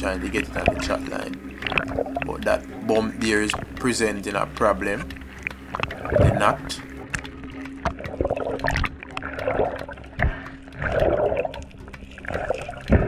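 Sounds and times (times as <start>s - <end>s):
swirling water underwater: 0.0s - 13.0s.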